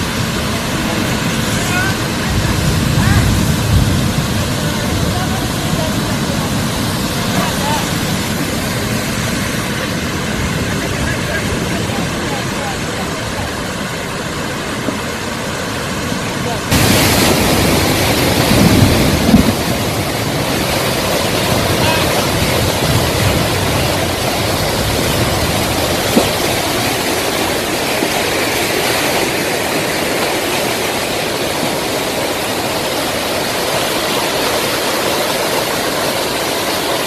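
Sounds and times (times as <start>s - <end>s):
runoff water rushing: 0.0s - 37.0s.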